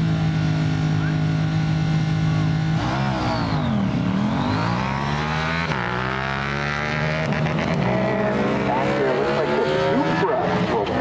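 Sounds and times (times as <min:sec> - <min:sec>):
drag racing motorcycles revving: 0:00.0 - 0:11.0.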